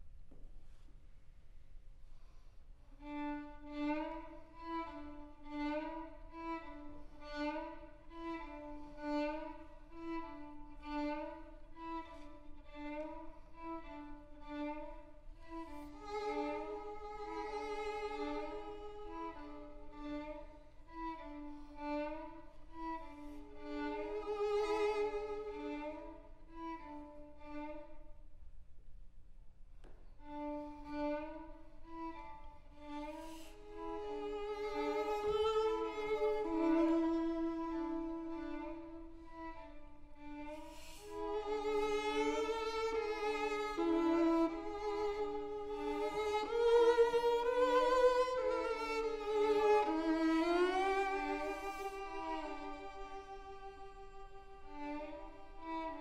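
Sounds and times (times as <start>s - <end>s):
violin duet: 2.7s - 28.4s, 29.8s - 56.0s.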